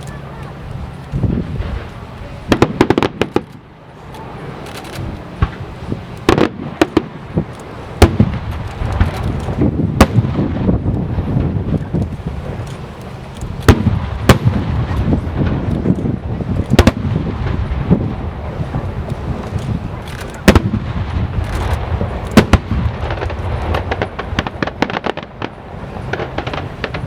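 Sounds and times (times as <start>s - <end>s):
fireworks bangs: 0.0s - 27.0s
low rumble and crackle: 0.0s - 27.0s.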